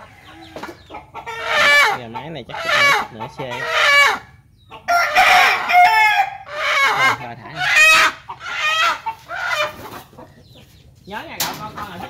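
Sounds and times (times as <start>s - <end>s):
chicken calling: 0.0s - 12.0s.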